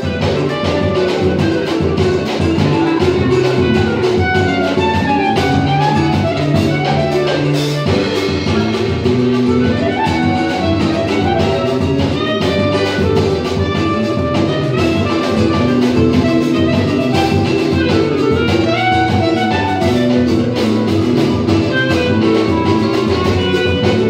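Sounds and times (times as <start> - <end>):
cavaquinho: 0.0 - 24.0
clarinet melody: 0.0 - 24.0
drum kit: 0.0 - 24.0
guitar: 0.0 - 24.0.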